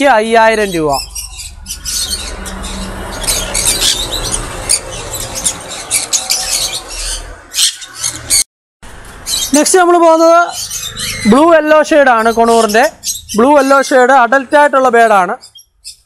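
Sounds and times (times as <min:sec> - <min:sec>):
small birds chirping: 0:00.0 - 0:08.5, 0:09.2 - 0:16.0.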